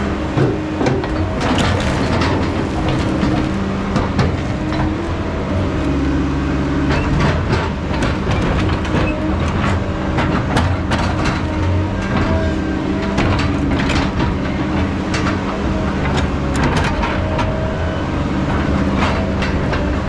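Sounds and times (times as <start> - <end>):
diesel machinery running: 0.0 - 20.0.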